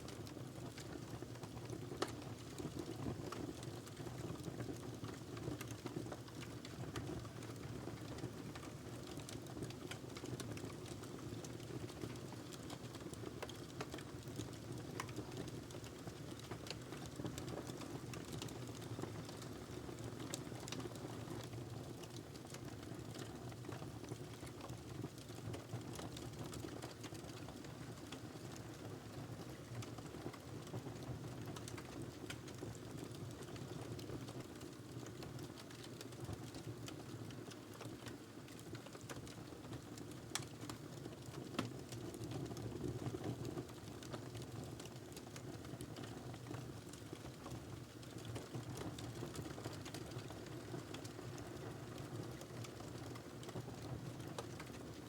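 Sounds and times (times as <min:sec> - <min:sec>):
fireplace fire crackling: 0:00.1 - 0:55.0.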